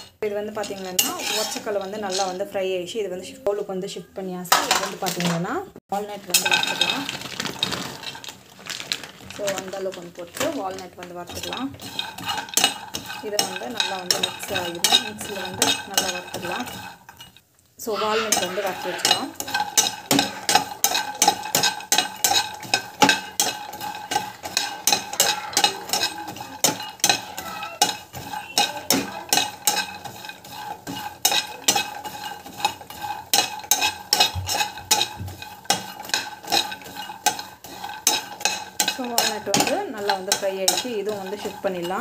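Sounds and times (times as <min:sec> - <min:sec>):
spatula scraping a pan: 0:00.0 - 0:02.9, 0:06.0 - 0:42.0.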